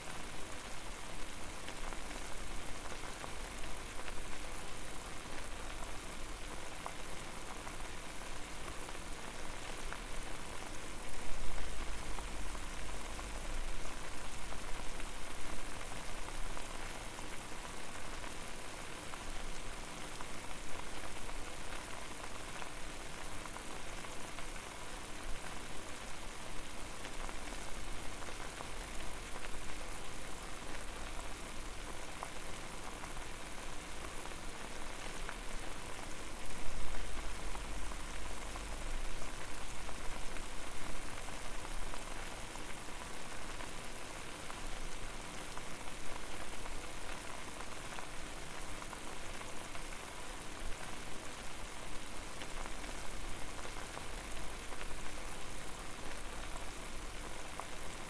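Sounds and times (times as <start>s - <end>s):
water boiling and bubbling: 0.0s - 58.0s.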